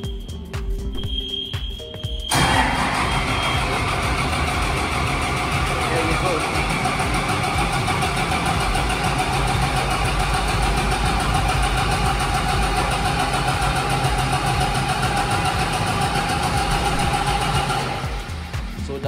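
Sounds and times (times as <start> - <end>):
diesel engine cranking on starter: 2.3 - 18.6.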